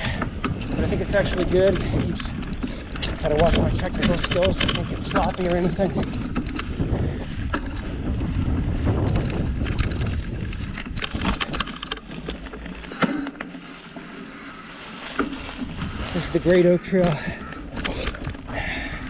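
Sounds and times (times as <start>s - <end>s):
wind rushing over microphone: 0.0s - 12.8s, 15.0s - 19.0s
bike clicks and rattles: 0.0s - 19.0s
bike tyres rolling over dirt: 0.0s - 19.0s.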